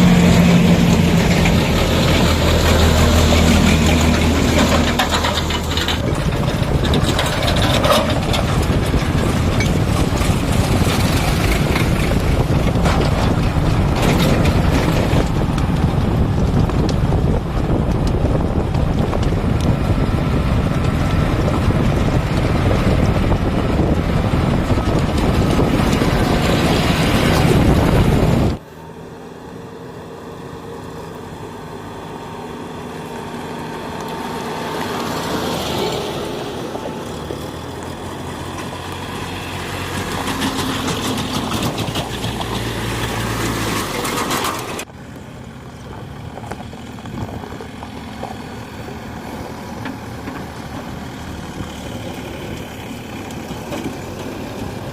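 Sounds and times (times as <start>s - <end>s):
diesel engine hum: 0.0s - 54.9s
heavy diesel machinery running: 0.0s - 54.9s.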